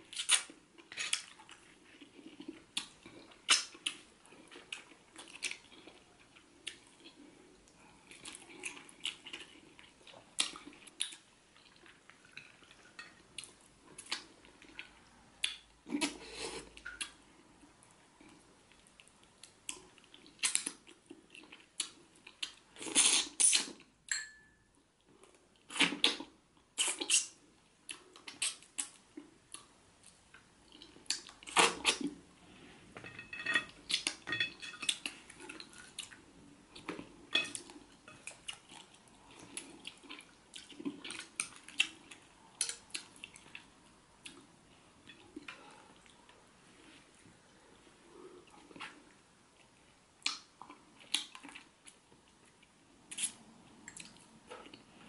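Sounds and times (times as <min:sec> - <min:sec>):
sucking and chewing: 0:00.0 - 0:17.2, 0:18.1 - 0:23.9, 0:25.2 - 0:32.2, 0:34.8 - 0:47.0, 0:48.2 - 0:55.0.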